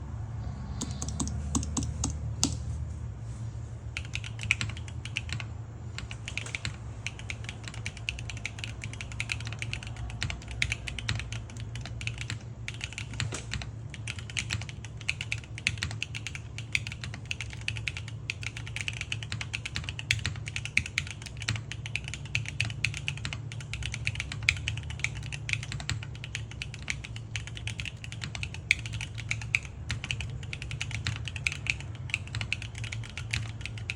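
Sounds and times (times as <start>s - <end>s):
mechanical keyboard typing: 0.8s - 2.6s, 4.0s - 33.9s.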